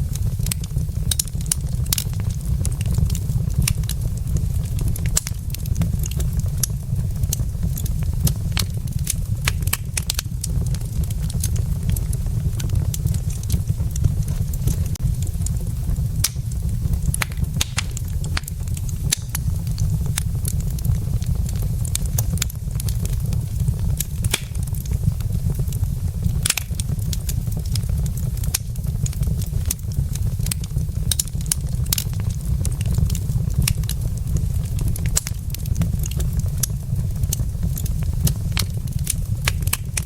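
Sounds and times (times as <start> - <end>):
logs crackling and popping: 0.0 - 40.0
low rumble: 0.0 - 40.0.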